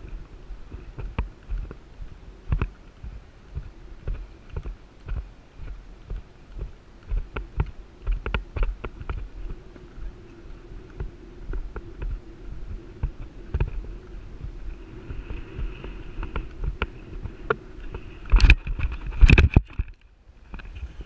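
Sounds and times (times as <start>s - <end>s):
horse hoofbeats on sand: 0.0s - 18.2s.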